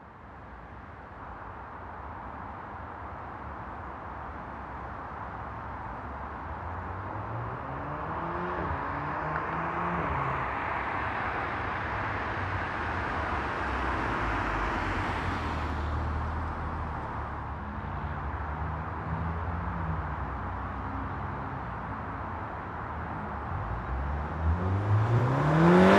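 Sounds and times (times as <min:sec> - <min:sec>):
distant road noise: 0:03.0 - 0:25.9.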